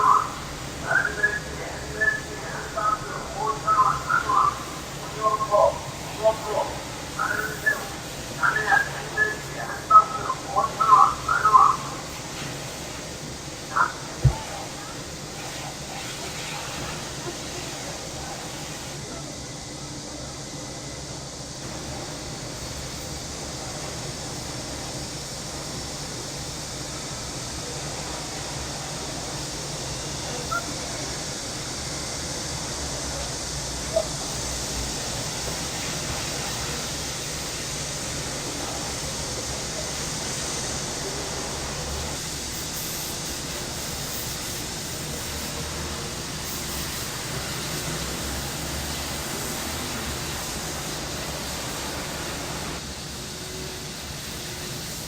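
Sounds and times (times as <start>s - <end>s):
cicadas chorus: 0.0s - 55.0s.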